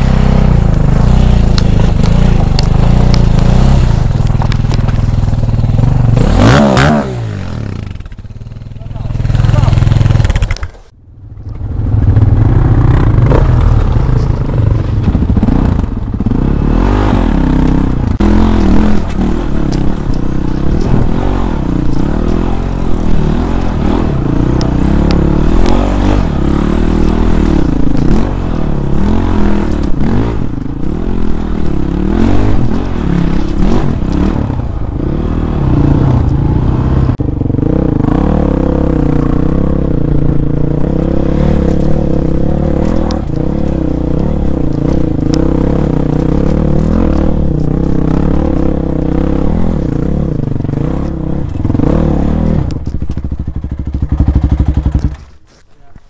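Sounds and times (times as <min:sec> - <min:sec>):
dirt bike engine revving: 0:00.0 - 0:10.8, 0:11.6 - 0:55.4.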